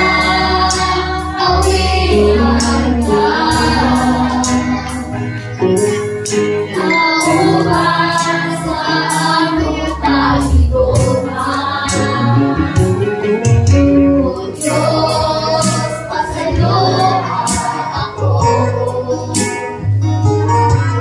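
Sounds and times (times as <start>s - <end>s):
group singing a worship song: 0.0s - 5.6s, 6.6s - 20.1s
low instrumental backing: 0.0s - 21.0s.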